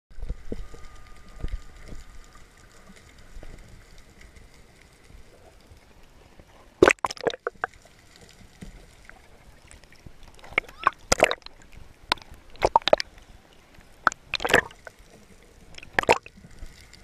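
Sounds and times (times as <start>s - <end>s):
sea water sloshing: 0.1s - 17.0s.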